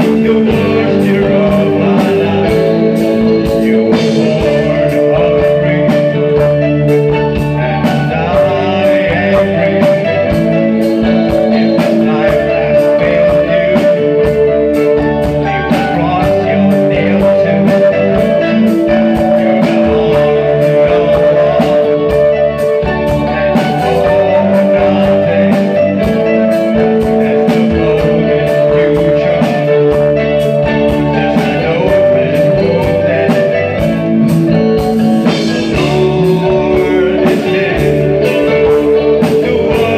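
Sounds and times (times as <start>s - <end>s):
drum beat: 0.0s - 39.9s
rock band playing: 0.0s - 39.9s.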